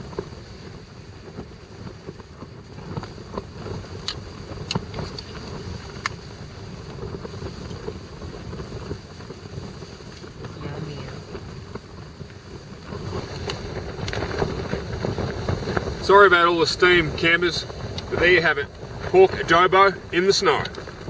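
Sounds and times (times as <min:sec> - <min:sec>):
strong wind buffeting tent: 0:00.0 - 0:21.0.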